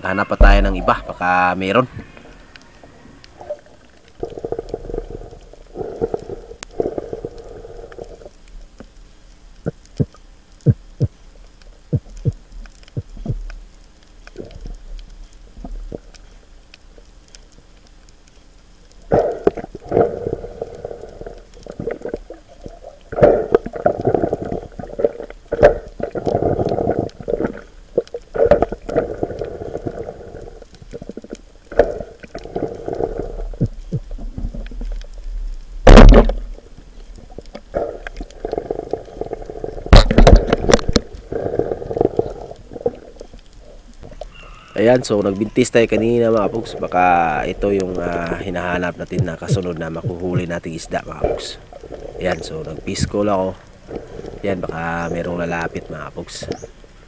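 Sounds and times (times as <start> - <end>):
underwater gurgling and rushing water: 0.0 - 11.2, 18.9 - 57.0.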